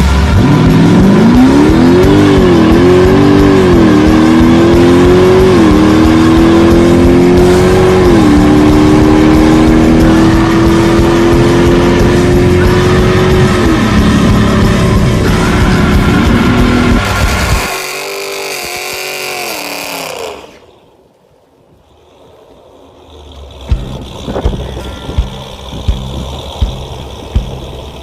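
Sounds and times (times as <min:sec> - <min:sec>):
car engine accelerating hard: 0:00.0 - 0:20.8, 0:22.9 - 0:28.0.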